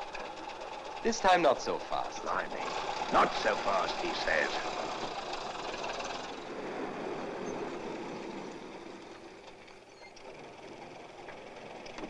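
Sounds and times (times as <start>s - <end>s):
road noise: 0.0s - 12.0s
taxi engine: 0.0s - 12.0s.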